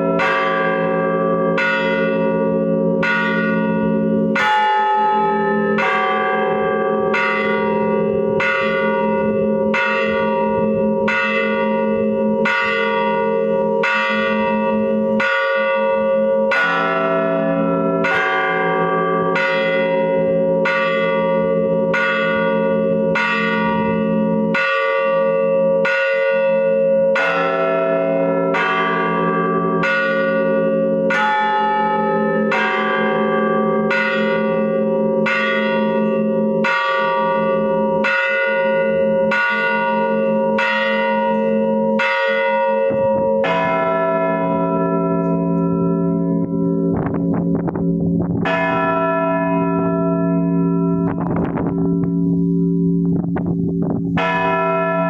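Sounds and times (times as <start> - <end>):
church bell strokes: 0.0 - 55.0
hum of larger bells: 0.0 - 55.0.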